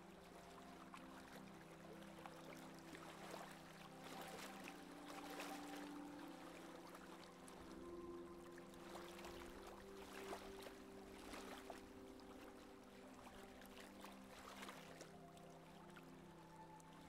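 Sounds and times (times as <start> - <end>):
soft background music: 0.0 - 17.0
water splashing along hull: 0.0 - 17.0.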